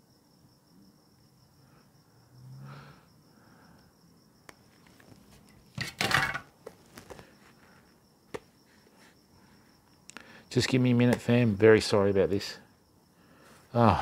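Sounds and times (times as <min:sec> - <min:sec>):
cricket trilling: 0:00.0 - 0:14.0.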